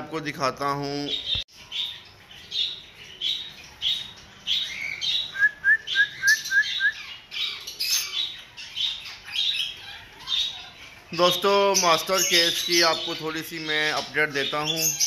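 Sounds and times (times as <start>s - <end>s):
small parrots chirping and squawking: 0.6s - 15.0s.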